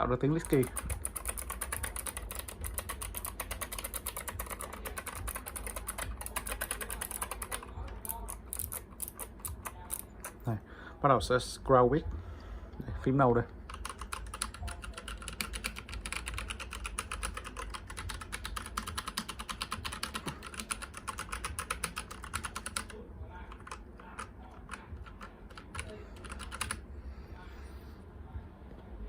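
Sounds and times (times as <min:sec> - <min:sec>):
mechanical keyboard typing: 0:00.0 - 0:10.4, 0:13.6 - 0:26.8.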